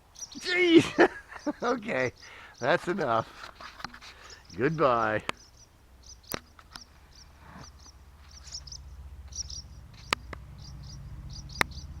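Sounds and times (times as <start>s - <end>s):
swallows chirping: 0.0s - 12.0s.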